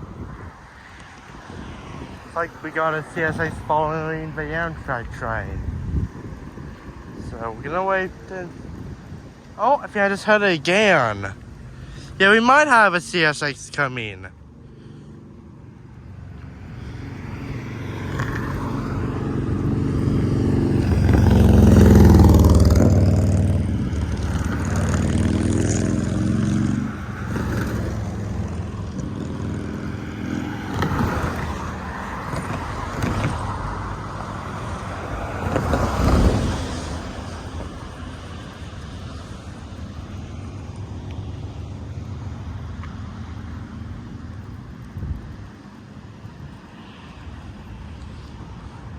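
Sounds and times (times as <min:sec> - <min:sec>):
wind noise: 0:00.0 - 0:12.2, 0:16.6 - 0:41.4, 0:43.9 - 0:48.9
road vehicles passing by: 0:00.0 - 0:48.9.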